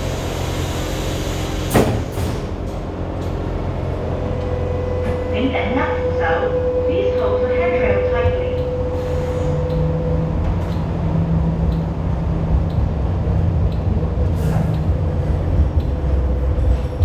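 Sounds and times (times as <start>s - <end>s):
rail car rumble and hum: 0.0s - 17.0s.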